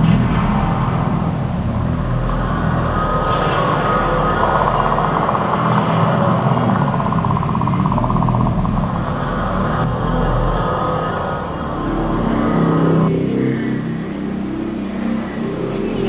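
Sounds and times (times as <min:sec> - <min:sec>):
rumbling ambient drone: 0:00.0 - 0:16.0.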